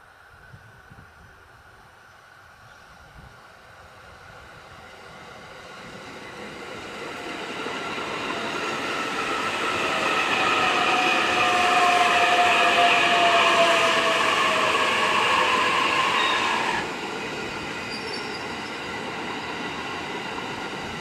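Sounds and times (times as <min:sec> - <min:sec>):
electric train approaching: 0:00.0 - 0:21.0.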